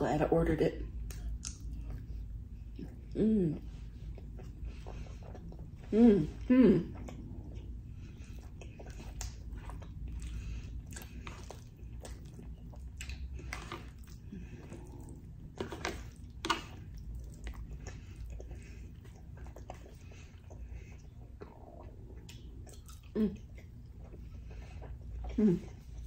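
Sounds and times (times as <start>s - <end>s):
close-up chewing: 0.9s - 26.0s.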